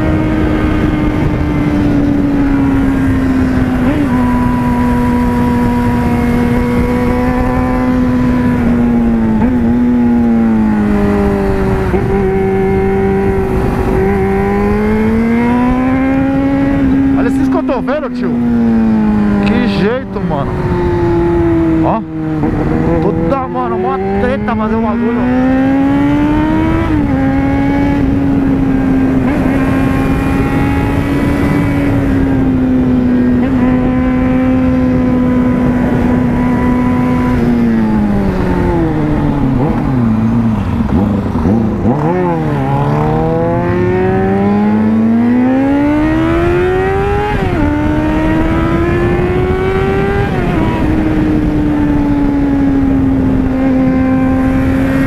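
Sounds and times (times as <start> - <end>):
motorcycle engine: 0.0 - 55.0
wind rush on microphone: 0.0 - 55.0.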